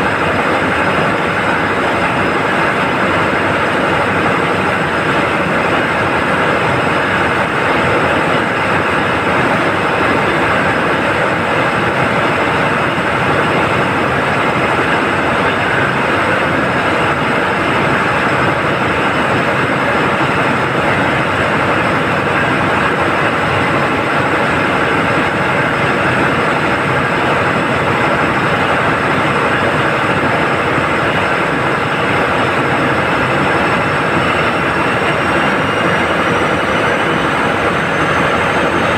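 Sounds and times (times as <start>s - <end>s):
ship diesel engines running: 0.0s - 38.9s.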